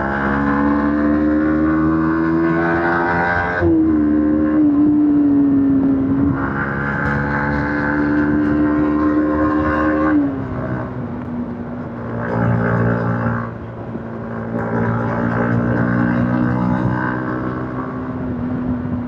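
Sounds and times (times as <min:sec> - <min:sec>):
motorcycle engine revving: 0:00.0 - 0:11.2, 0:11.9 - 0:19.0.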